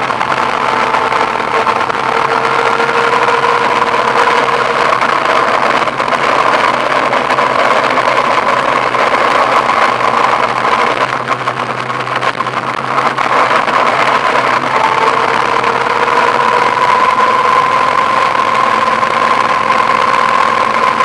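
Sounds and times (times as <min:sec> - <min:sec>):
rushing noise: 0:00.0 - 0:21.0
vehicle engine hum: 0:00.0 - 0:21.0.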